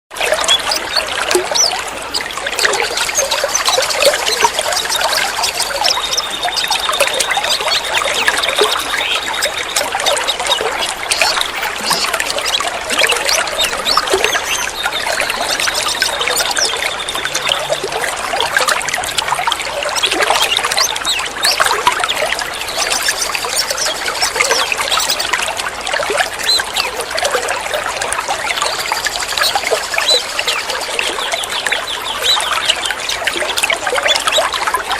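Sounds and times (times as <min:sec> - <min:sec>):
water trickling: 0:00.1 - 0:34.9
songbirds chirping: 0:00.2 - 0:34.9.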